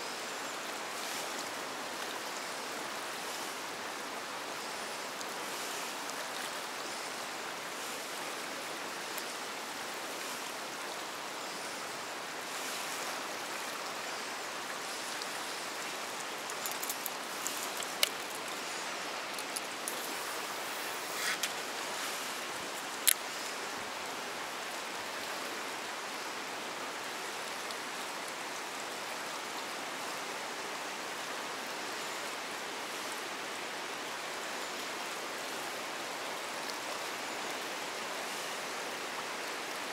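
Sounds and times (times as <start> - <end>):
river water rushing through rapids: 0.0 - 39.9.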